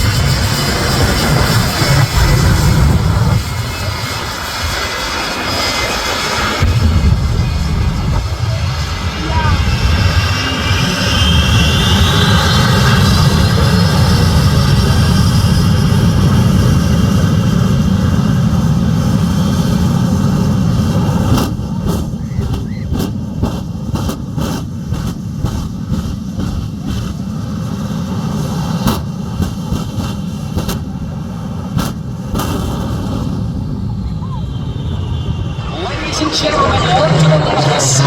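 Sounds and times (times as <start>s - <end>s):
aircraft engine rumbling: 0.0s - 38.0s.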